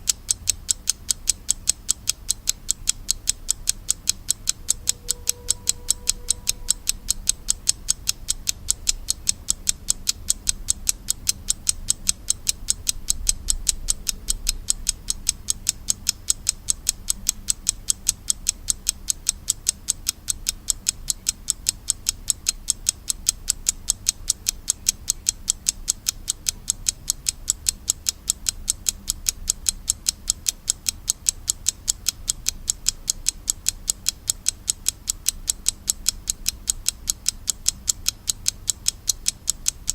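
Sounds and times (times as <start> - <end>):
mechanical alarm clock ticking: 0.0 - 39.9.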